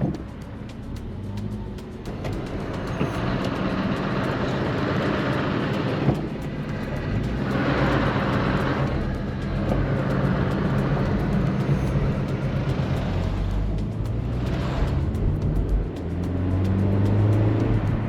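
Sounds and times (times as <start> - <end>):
car engine running: 0.0 - 18.0
rushing noise: 0.0 - 18.0.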